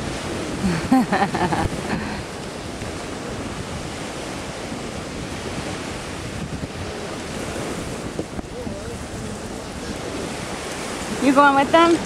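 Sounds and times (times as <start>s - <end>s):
ocean surf washing in: 0.0s - 12.0s
wind buffeting microphone: 0.0s - 12.0s.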